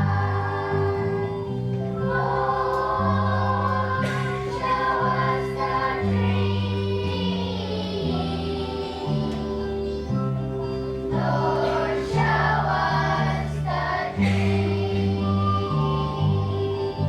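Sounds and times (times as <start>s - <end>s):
children's choir singing: 0.0s - 17.0s
instrumental accompaniment: 0.0s - 17.0s.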